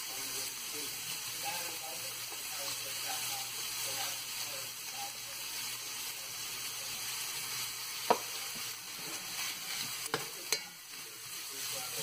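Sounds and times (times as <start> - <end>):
meat and onion sizzling in oil: 0.0 - 12.0.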